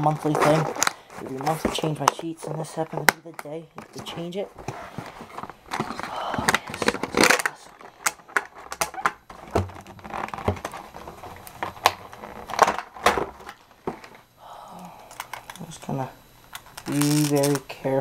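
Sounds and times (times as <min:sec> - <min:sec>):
cardboard packaging rustling: 0:00.0 - 0:14.3, 0:16.4 - 0:17.6.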